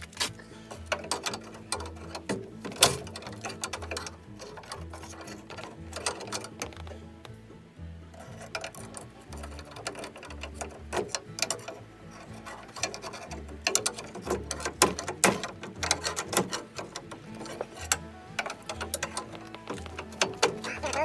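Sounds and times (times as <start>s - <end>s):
metal tool clicks and clanks: 0.0s - 7.4s, 8.2s - 21.0s.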